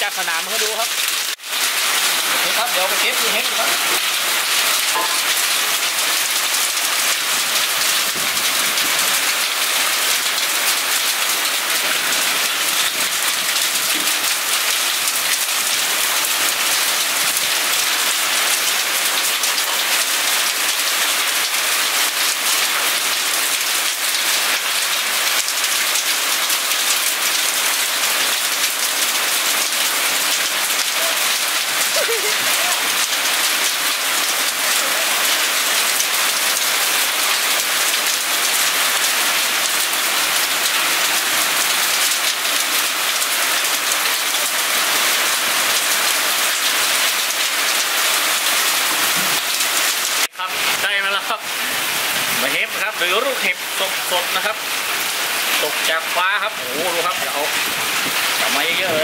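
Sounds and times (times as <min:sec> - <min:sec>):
heavy rain: 0:00.0 - 0:59.0
hailstones pattering: 0:00.2 - 0:50.9.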